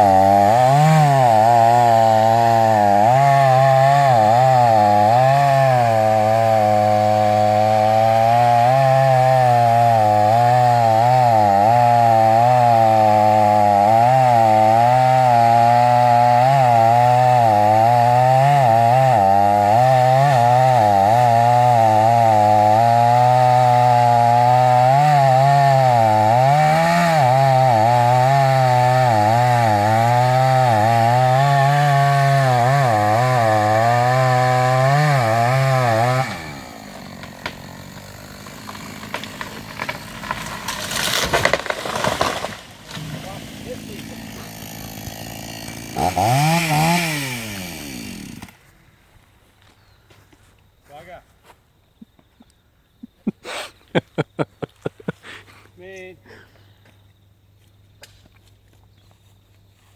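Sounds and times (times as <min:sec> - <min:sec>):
chainsaw cutting wood: 0:00.0 - 0:48.8.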